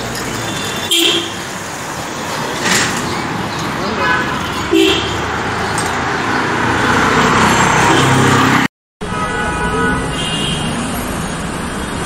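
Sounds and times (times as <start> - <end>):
engine and road noise: 0.0 - 12.0.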